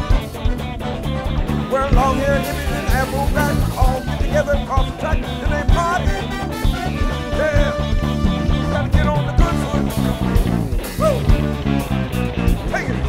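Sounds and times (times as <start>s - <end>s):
drum kit beat: 0.0s - 13.0s
electric guitar: 0.0s - 13.0s
live band playing: 0.0s - 13.0s
pitch-bending melody line: 0.0s - 13.0s.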